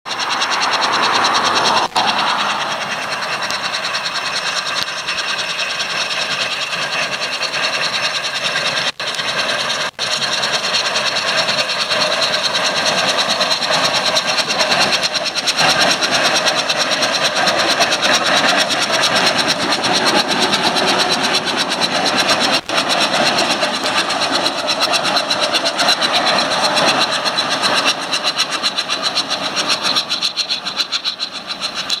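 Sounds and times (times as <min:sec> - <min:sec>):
steam traction engine clatter: 0:00.1 - 0:32.0.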